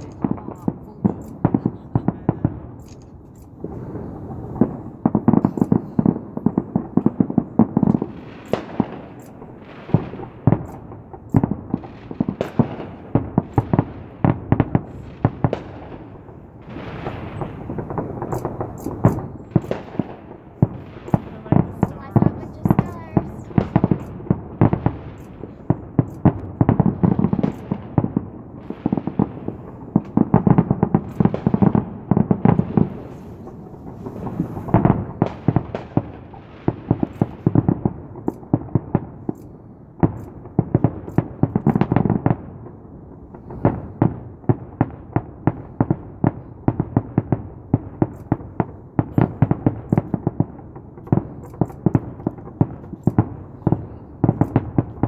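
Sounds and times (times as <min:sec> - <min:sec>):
fireworks booming: 0:00.0 - 0:55.0
fireworks cracking and banging: 0:00.0 - 0:55.0.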